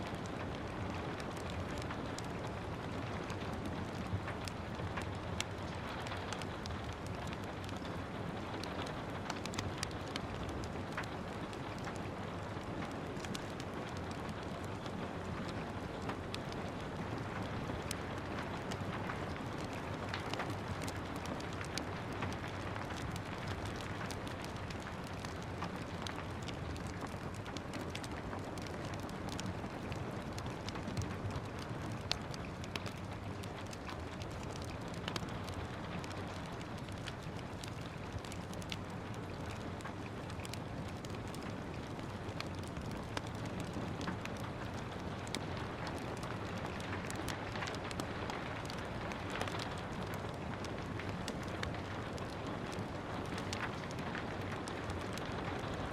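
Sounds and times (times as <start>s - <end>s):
steady rain: 0.0s - 55.9s
wood fire crackling: 0.0s - 55.9s.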